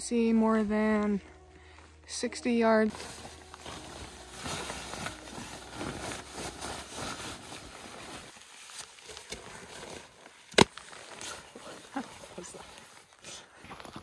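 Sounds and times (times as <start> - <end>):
fabric rustling and swishing: 0.2 - 13.2.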